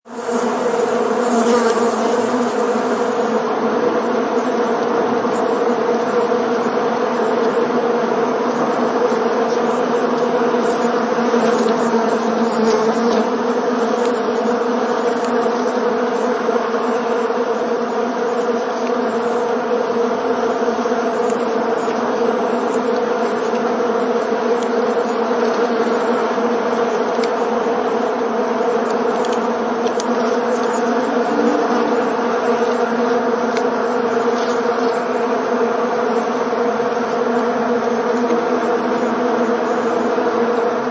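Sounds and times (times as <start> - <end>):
bees buzzing swarm: 0.1 - 40.9.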